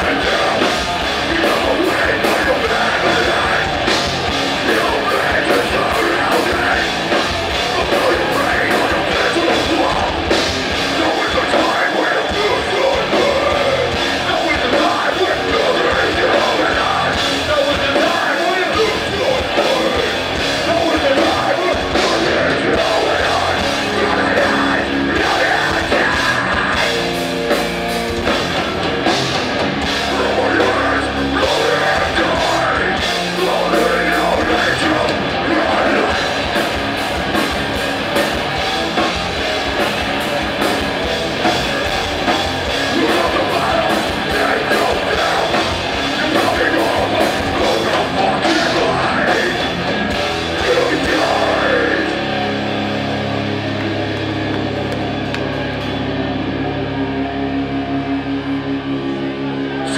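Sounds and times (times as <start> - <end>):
pounding drum kit: 0.0 - 56.5
distorted electric guitars: 0.0 - 59.9.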